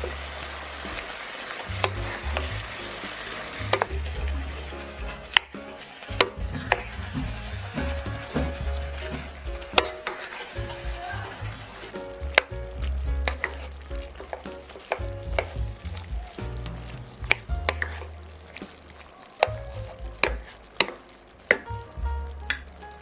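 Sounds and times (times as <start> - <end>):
background music: 0.0 - 23.0
food sizzling in a pan: 0.0 - 23.0.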